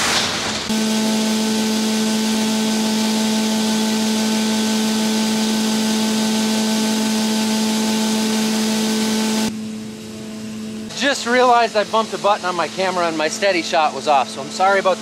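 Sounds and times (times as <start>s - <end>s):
truck engine pulling away: 0.7s - 13.5s
fan machinery hum: 0.7s - 15.0s.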